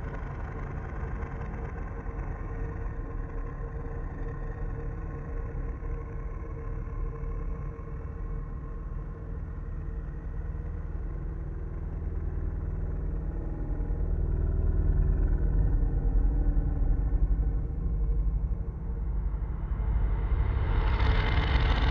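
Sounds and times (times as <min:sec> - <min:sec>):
deep fluttering drone: 0:00.0 - 0:21.9.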